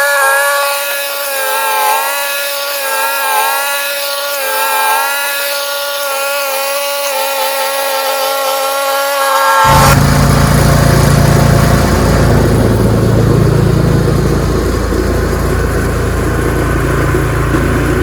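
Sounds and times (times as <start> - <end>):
snowblower engine running: 0.0 - 18.0.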